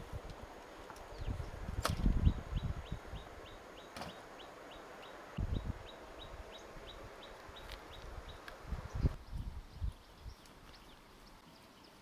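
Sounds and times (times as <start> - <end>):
bird chirping: 2.2 - 12.0.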